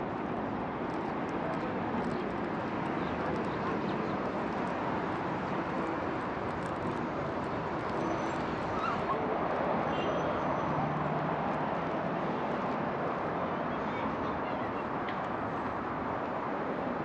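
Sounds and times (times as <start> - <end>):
outdoor street ambience: 0.0 - 17.0.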